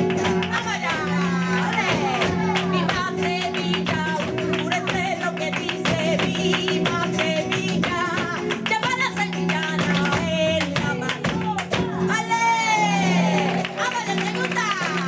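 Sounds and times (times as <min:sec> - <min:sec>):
acoustic flamenco guitar: 0:00.0 - 0:15.0.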